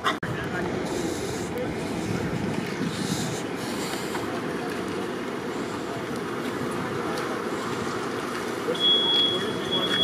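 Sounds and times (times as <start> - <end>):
idling vehicles and traffic: 0.0 - 10.0.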